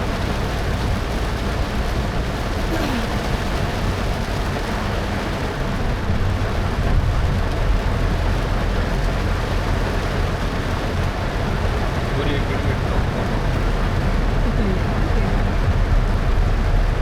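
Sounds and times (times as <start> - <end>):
car engine and tyres rumbling: 0.0 - 17.0
rain and road spray hissing: 0.0 - 17.0.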